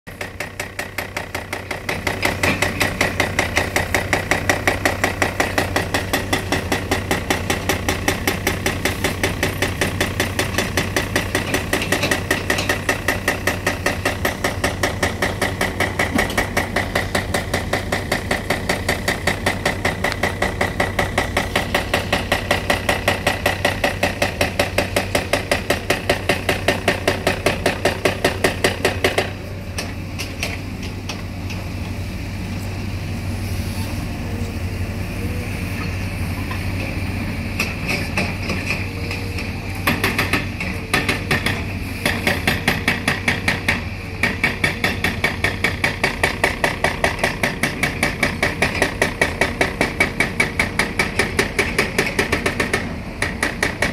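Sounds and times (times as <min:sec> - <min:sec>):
hydraulic hammer pounding concrete: 0:00.1 - 0:31.6, 0:37.6 - 0:53.9
excavator engine drone: 0:00.1 - 0:53.9.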